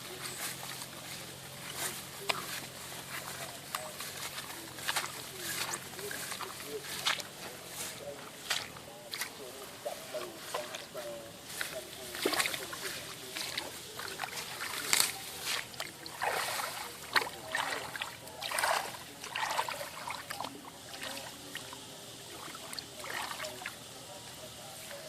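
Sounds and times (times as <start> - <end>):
water splashing and sloshing: 0.8 - 24.0.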